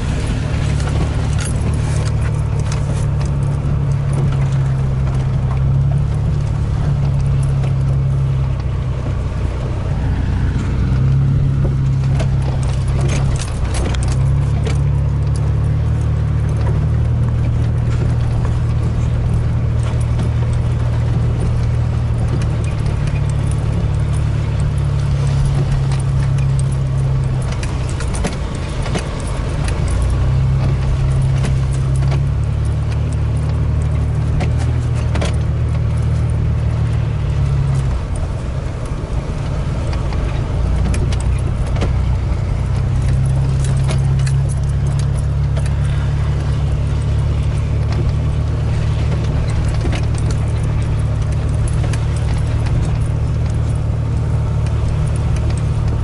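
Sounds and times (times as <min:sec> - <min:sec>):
rattles and clicks in cab: 0:00.0 - 0:56.0
vehicle engine droning: 0:00.0 - 0:56.0.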